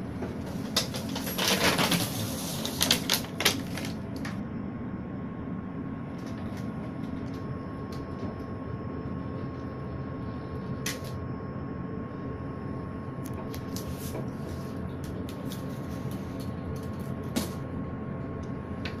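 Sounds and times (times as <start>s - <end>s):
ship machinery drone: 0.0s - 19.0s
faint whine: 3.7s - 19.0s.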